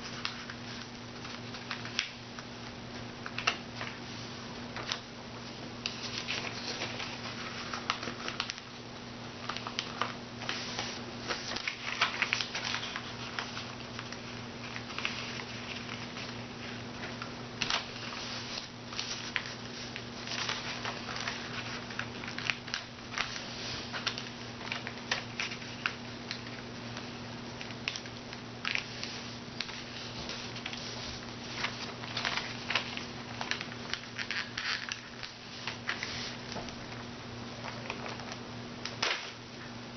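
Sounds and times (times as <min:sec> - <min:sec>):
paper rustling and crinkling: 0:00.0 - 0:05.1, 0:05.8 - 0:08.8, 0:09.4 - 0:39.4
low electrical hum: 0:00.0 - 0:39.9.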